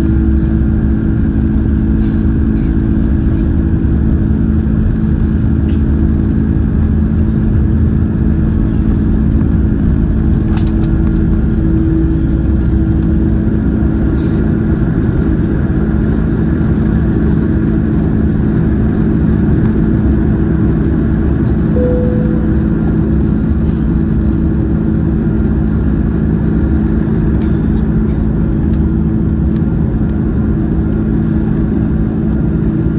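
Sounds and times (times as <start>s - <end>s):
jet engines loud rumble: 0.0s - 32.9s.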